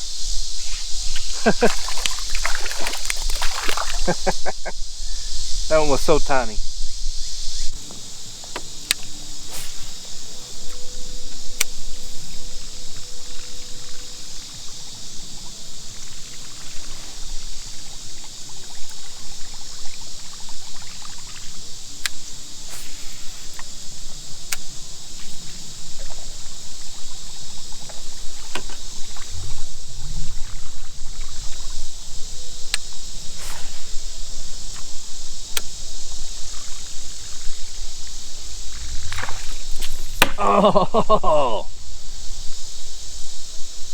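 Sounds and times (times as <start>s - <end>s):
steady high hiss: 0.0s - 43.9s
water lapping against hull: 0.6s - 6.5s, 7.6s - 40.6s.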